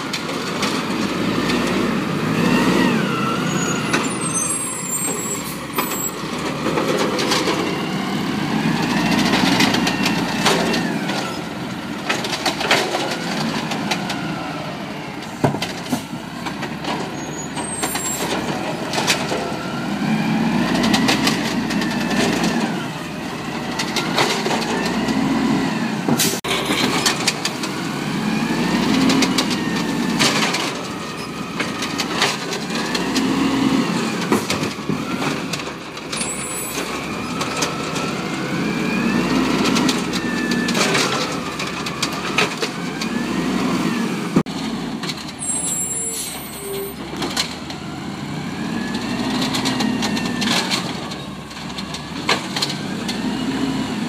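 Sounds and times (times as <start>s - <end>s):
garbage truck engine revving: 0.2s - 45.9s, 46.6s - 54.0s.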